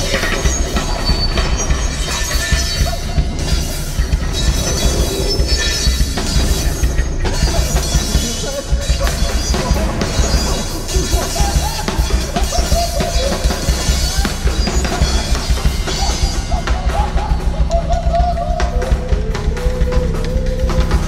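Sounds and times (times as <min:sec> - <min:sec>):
low electronic drone: 0:00.0 - 0:21.0.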